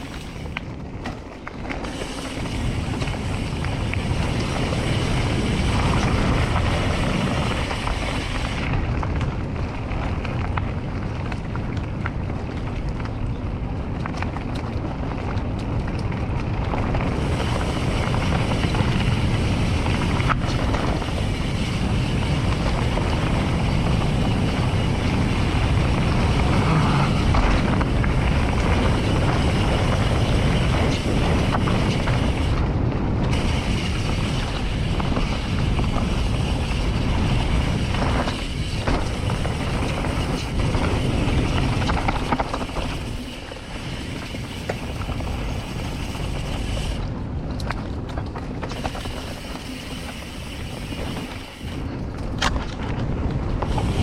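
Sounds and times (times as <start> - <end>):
bike rolling over dirt trail: 0.0 - 54.0
wind rush on microphone: 0.0 - 54.0.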